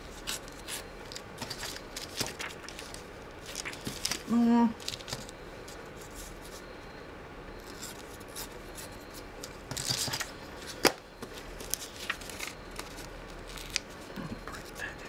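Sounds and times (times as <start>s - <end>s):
paper rustling: 0.1s - 6.7s, 7.6s - 14.9s.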